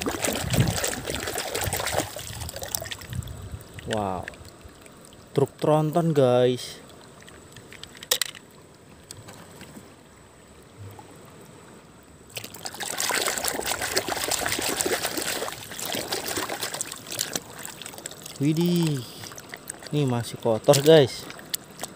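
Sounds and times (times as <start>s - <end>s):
water trickling and splashing: 0.0s - 10.0s, 12.2s - 21.9s.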